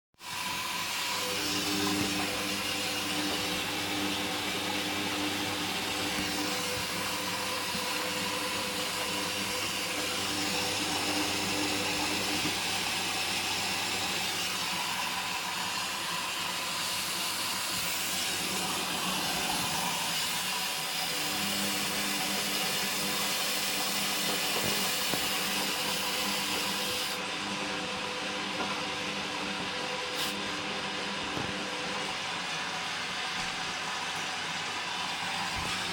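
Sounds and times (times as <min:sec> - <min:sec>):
washing machine hum: 0:00.2 - 0:35.9.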